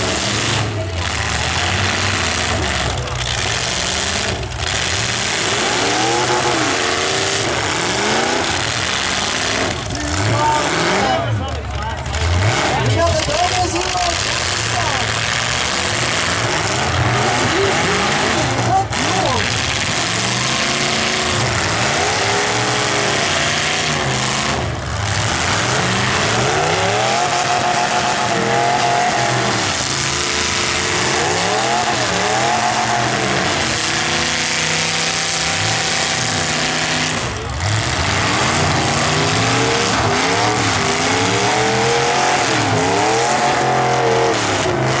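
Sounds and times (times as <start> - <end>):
car engines revving: 0.0 - 45.0
crowd noise: 0.0 - 45.0.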